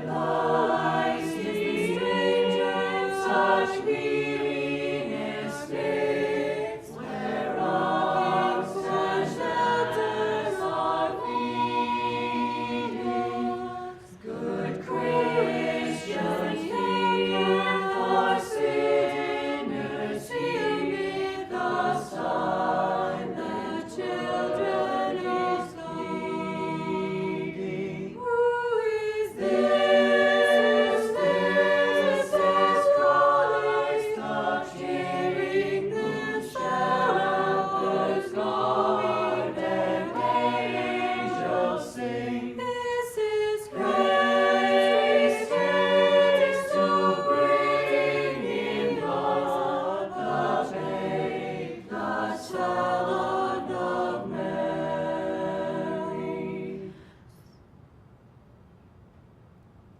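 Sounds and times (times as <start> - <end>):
choir singing a cappella: 0.0 - 57.5.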